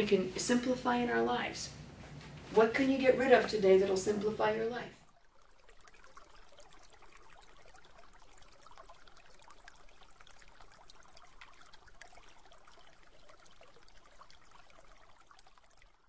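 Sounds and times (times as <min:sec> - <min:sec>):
faint trickling water: 0:00.0 - 0:16.0.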